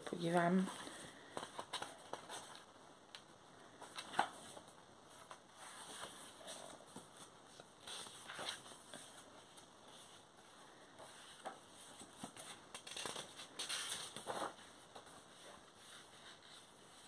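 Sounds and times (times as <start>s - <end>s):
book pages rustling: 0.6s - 17.0s.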